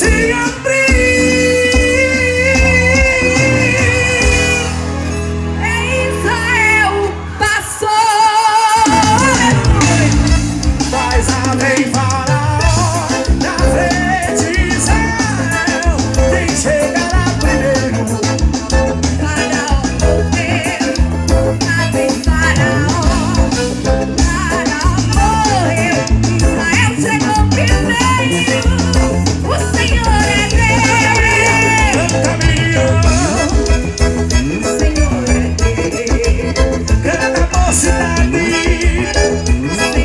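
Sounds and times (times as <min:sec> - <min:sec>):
drum kit: 0:00.0 - 0:05.6, 0:08.0 - 0:40.0
wavering melodic lead line: 0:00.0 - 0:07.4, 0:08.6 - 0:40.0
bass: 0:00.0 - 0:40.0
upbeat live band music: 0:00.0 - 0:40.0.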